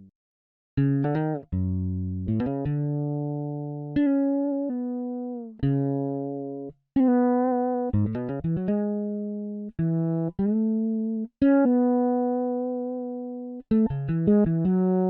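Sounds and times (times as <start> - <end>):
fretless electric bass notes: 0.8 - 15.0.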